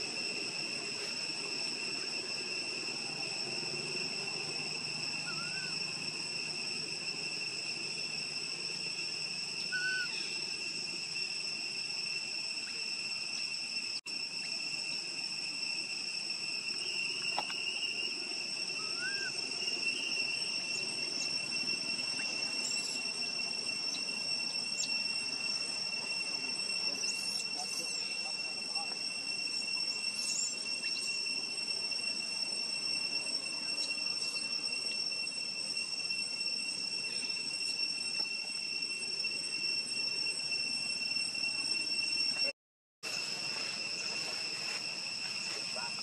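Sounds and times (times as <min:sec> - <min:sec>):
short rising chirps: 0:00.0 - 0:42.6
high-pitched insect drone: 0:00.0 - 0:46.0.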